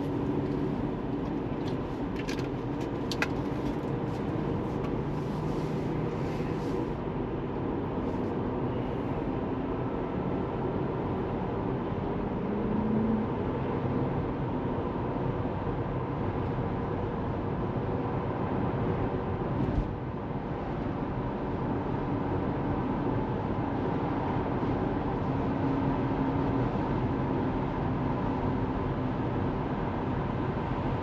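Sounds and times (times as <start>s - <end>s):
road and tyre noise: 0.0s - 31.0s.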